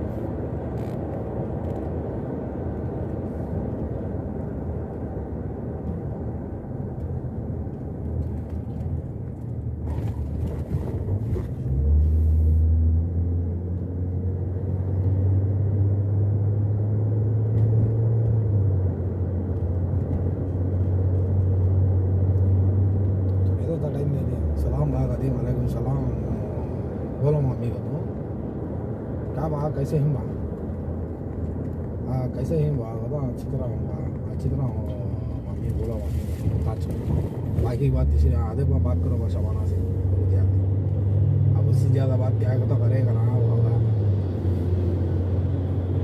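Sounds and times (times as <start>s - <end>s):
car engine and tyre rumble: 0.0s - 46.0s.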